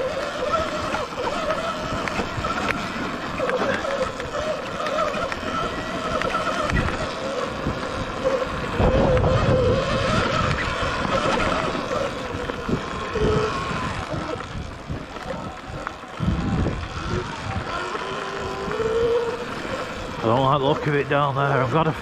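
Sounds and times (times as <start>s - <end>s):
electric motor whining: 0.0s - 22.0s
wind buffeting microphone: 0.0s - 22.0s.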